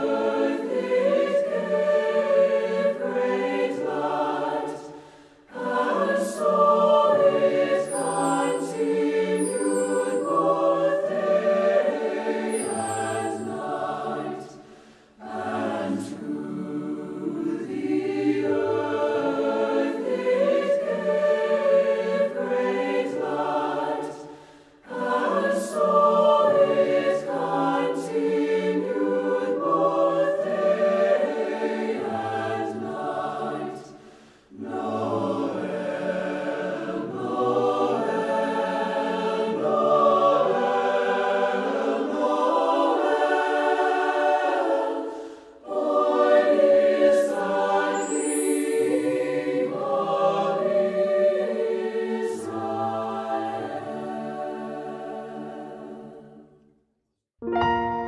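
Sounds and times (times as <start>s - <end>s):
choir singing: 0.0s - 56.7s.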